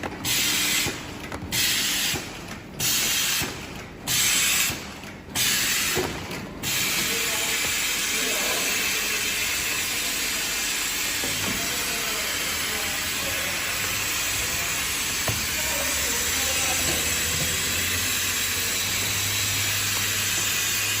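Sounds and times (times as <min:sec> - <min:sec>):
sealing machine hissing: 0:00.1 - 0:21.0.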